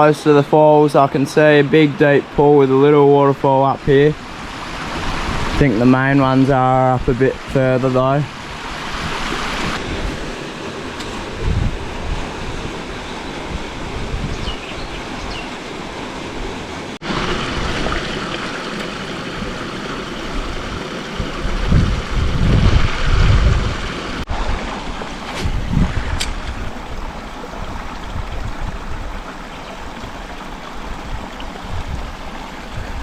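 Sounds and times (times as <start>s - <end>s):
creek water rushing over rocks: 0.0s - 33.0s
wind buffeting microphone: 3.8s - 15.5s, 16.4s - 33.0s.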